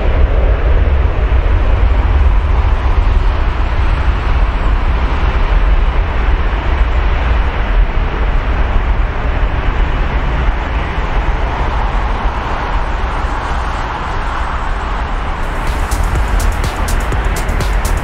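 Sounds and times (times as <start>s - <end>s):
jet engines roaring at takeoff: 0.0s - 16.1s.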